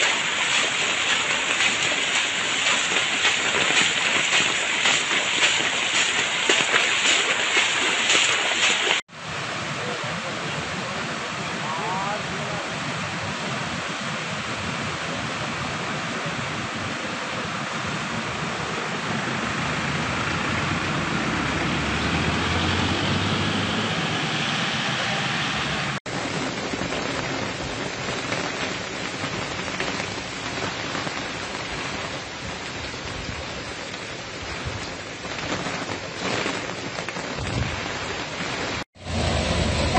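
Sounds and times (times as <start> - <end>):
rain falling: 0.0 - 39.9
river rushing over causeway: 0.0 - 39.9.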